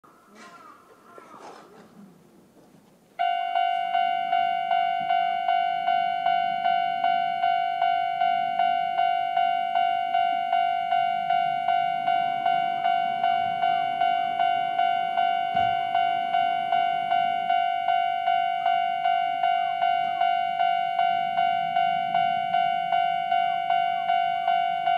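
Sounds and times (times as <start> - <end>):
level crossing bell ringing: 3.2 - 24.9.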